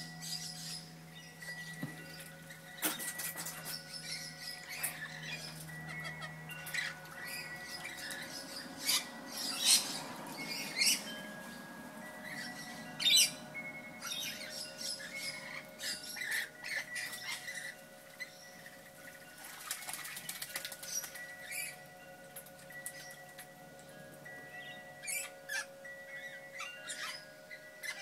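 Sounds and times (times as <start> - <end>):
lorikeets screeching and chattering: 0.2 - 21.9, 24.5 - 28.0.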